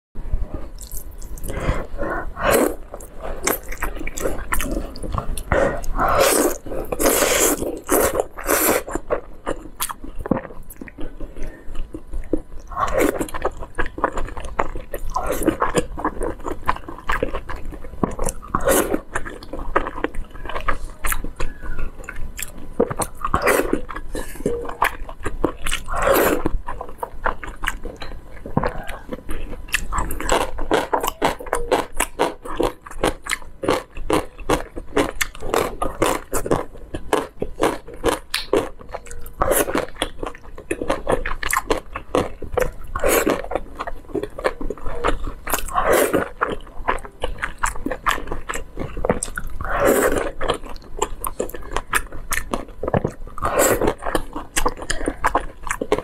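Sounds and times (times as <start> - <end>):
person chewing noodles: 0.5 - 56.0.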